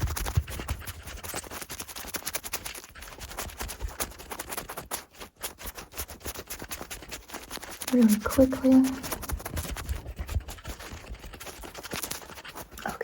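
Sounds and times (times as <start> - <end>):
scratching and rubbing on microphone: 0.0 - 13.0.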